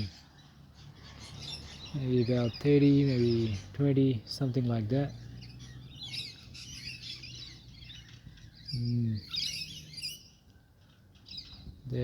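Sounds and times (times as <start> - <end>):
parrots chattering and screeching: 0.0 - 3.7, 5.1 - 11.6.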